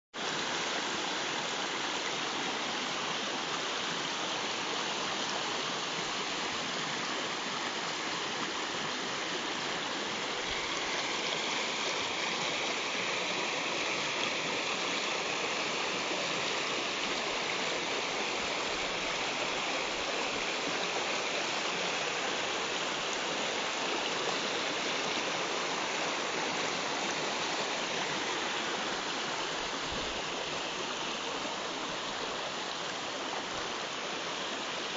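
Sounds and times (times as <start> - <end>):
stream rushing over stones: 0.2 - 34.9.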